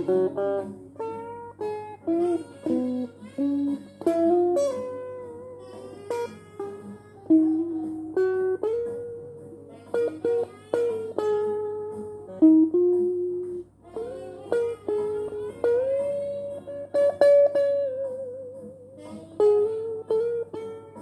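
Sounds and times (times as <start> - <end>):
solo guitar picked notes: 0.0 - 21.0.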